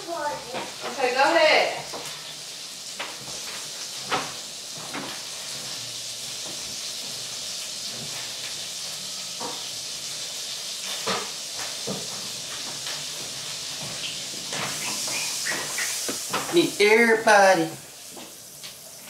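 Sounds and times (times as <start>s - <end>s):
sandwiches sizzling in a frying pan: 0.0s - 19.0s.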